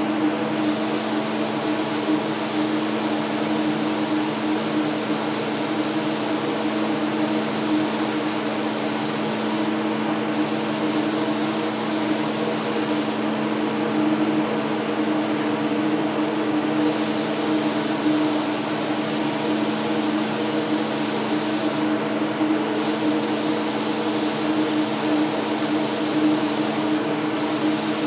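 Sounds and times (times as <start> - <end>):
paint spray gun hissing: 0.6 - 13.2, 16.8 - 21.9, 22.8 - 28.0.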